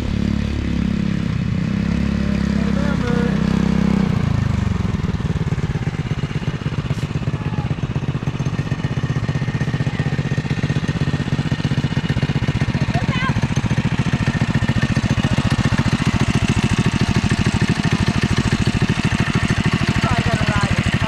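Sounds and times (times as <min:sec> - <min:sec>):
small engine chugging: 0:00.0 - 0:21.0.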